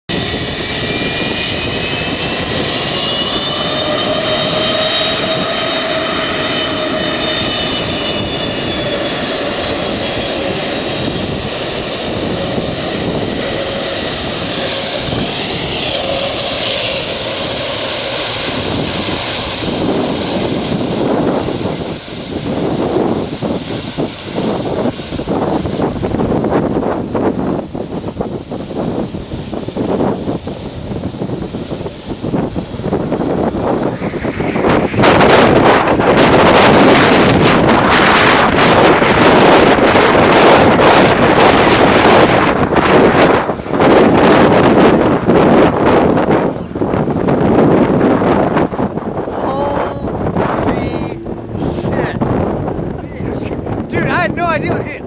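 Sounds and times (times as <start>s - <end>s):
jet blast buffeting microphone: 0.1s - 55.0s
jet engines roaring: 0.1s - 55.0s.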